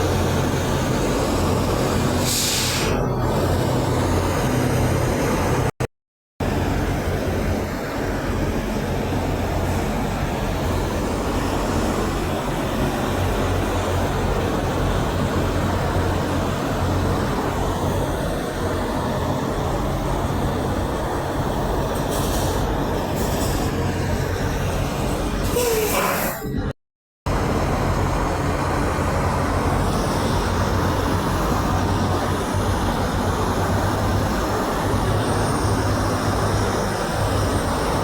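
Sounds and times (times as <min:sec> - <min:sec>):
trucks passing: 0:00.0 - 0:05.8, 0:06.4 - 0:25.9, 0:27.3 - 0:38.0
heavy road traffic rumble: 0:00.0 - 0:26.7, 0:27.3 - 0:38.0.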